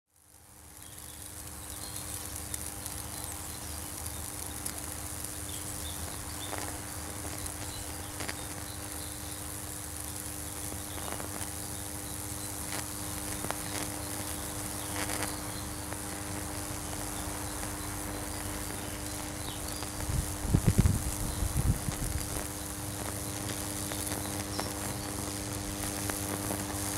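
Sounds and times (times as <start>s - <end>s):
sharp electrical crackles: 0.2s - 26.9s
electrical buzz: 0.4s - 26.9s.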